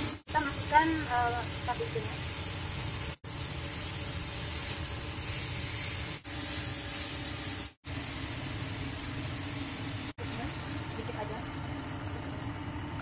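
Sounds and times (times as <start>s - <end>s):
vegetables sizzling in a wok: 0.0s - 12.4s.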